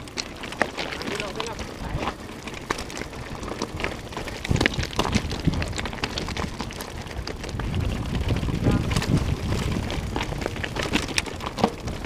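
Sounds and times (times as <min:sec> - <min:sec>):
bike rattling: 0:00.0 - 0:12.0
bike tyres crunching over stones: 0:00.0 - 0:12.0.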